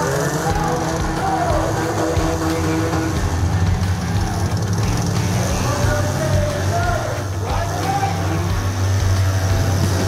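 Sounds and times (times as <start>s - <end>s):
car engines rumbling: 0.0s - 10.0s.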